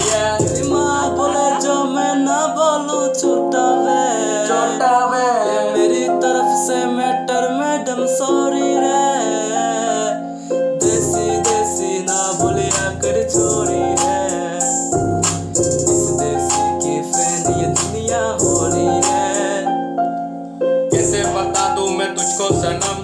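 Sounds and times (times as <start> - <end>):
man singing: 0.0 - 19.8, 20.9 - 23.0
instrumental backing: 0.0 - 23.0.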